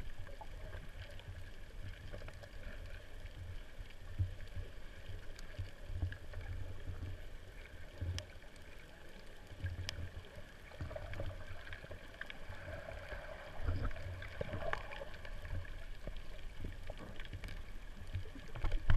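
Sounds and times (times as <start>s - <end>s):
faint clicks and crackles: 0.0s - 18.9s
underwater moving water rumble: 0.0s - 18.9s.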